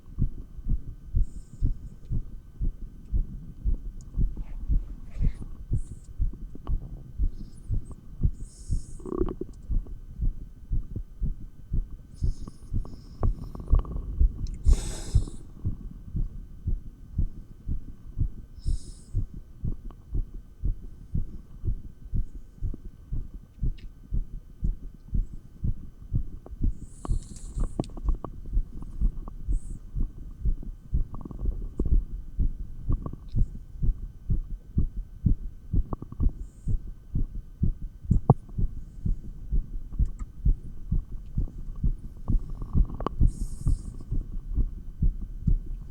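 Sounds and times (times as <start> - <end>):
heartbeat through stethoscope: 0.0 - 45.9.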